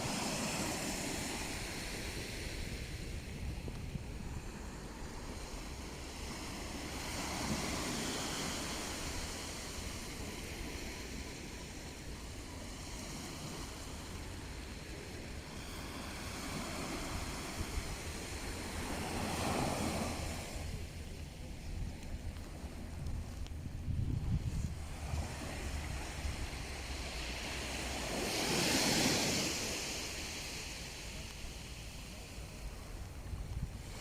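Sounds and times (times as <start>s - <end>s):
sea waves breaking on shore: 0.0s - 34.0s
wind rumbling on microphone: 0.0s - 34.0s.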